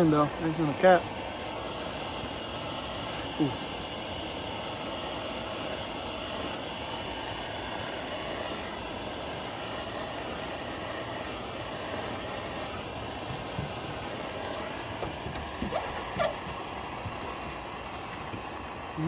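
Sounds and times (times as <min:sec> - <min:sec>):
heat gun blowing: 0:00.0 - 0:19.0.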